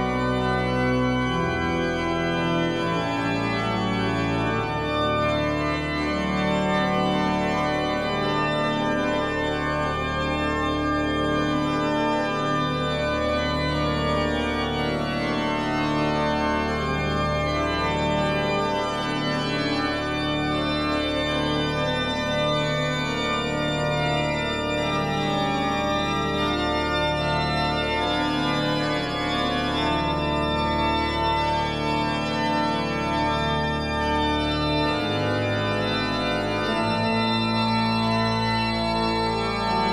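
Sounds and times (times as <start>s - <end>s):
slow organ chords: 0.0s - 39.9s.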